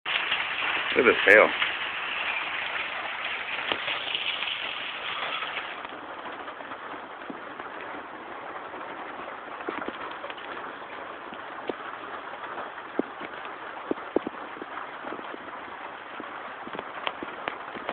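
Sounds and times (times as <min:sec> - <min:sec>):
hail hissing on ground: 0:00.1 - 0:17.9
sharp ticks of hailstones: 0:00.1 - 0:17.9.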